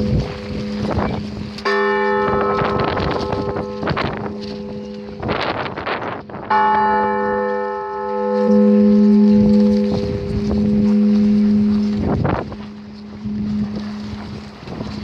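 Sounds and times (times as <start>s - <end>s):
large church bell ringing: 0.0s - 15.0s.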